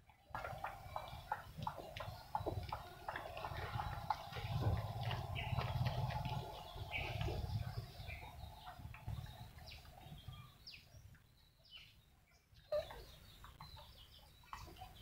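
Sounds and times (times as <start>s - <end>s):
chickens clucking: 0.1s - 10.8s, 12.7s - 15.0s.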